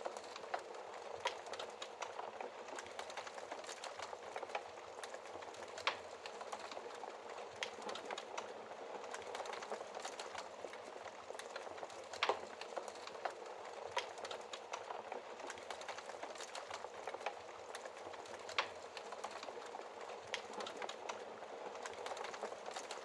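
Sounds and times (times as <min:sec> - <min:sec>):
wood fire crackling: 0:00.0 - 0:23.0
fire popping: 0:00.2 - 0:23.0.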